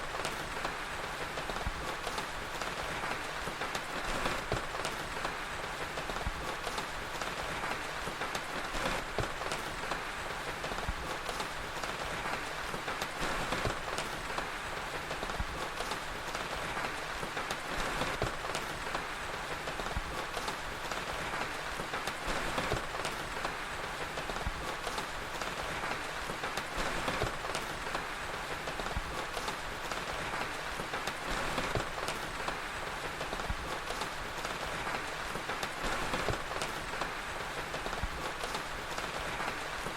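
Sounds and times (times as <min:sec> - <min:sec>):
fire crackling and popping: 0:00.0 - 0:39.9
steady rain: 0:00.0 - 0:39.9.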